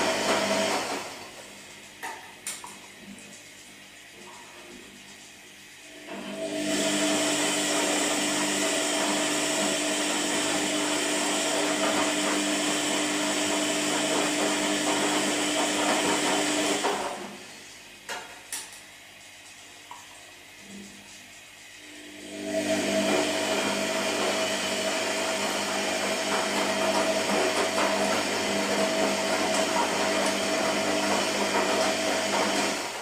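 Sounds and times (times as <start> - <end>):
washing machine motor whirring: 0.0 - 33.0.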